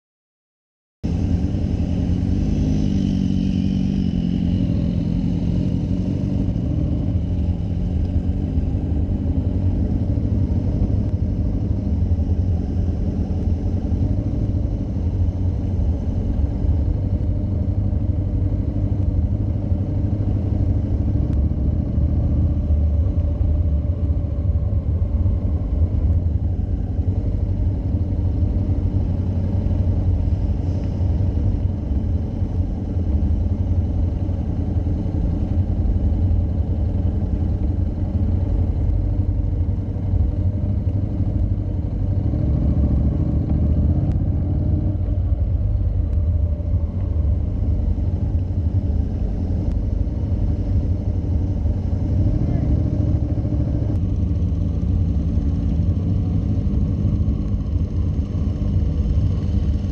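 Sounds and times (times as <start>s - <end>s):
motorcycle engine running: 1.0s - 59.9s.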